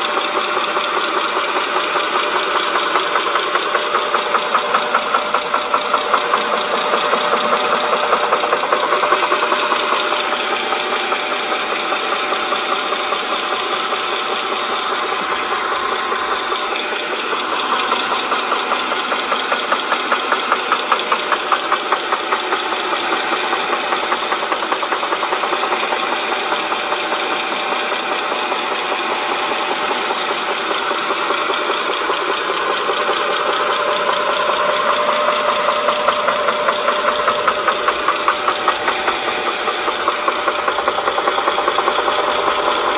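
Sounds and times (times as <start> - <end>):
car engine knocking: 0.0 - 42.9.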